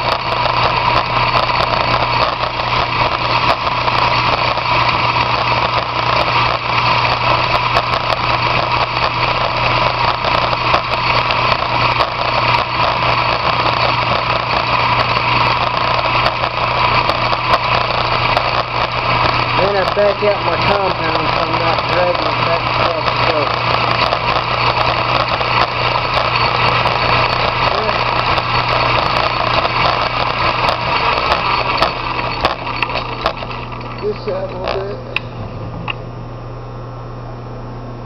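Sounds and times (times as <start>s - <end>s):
lathe motor droning: 0.0s - 38.0s.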